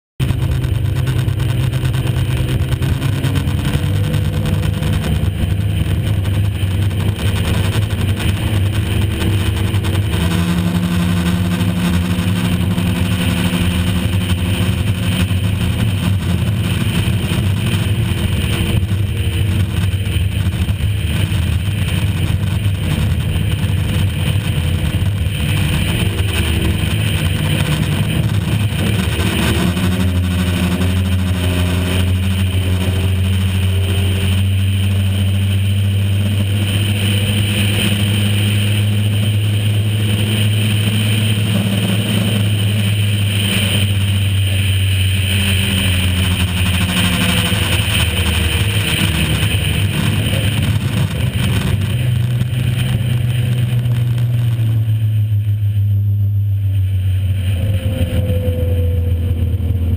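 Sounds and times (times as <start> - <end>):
boat engine running: 0.2 - 59.9
rushing wind: 0.2 - 59.9.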